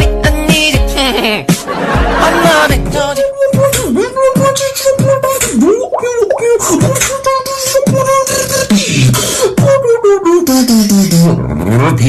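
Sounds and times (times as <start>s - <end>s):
beatboxing vocal percussion: 0.0s - 1.6s, 2.4s - 12.0s.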